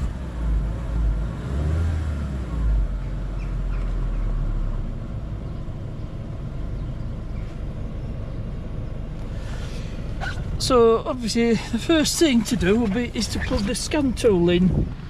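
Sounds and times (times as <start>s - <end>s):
car engine exhaust rumble: 0.0s - 15.0s.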